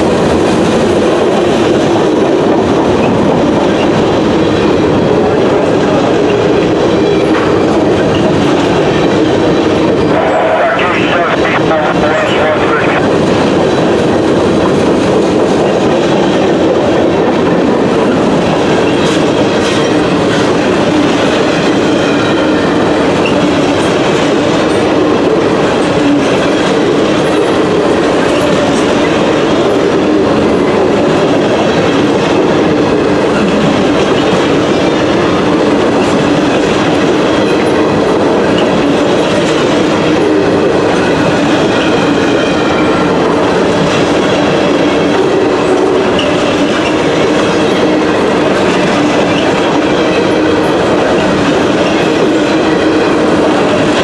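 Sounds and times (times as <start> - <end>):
train cars rolling on rails: 0.0 - 54.0.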